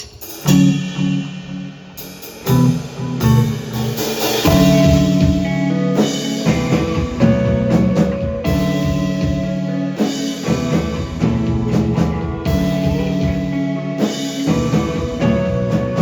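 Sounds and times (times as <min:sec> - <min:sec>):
drum kit hits: 0:00.0 - 0:16.0
live band playing: 0:00.0 - 0:16.0
sustained guitar chords: 0:00.5 - 0:16.0.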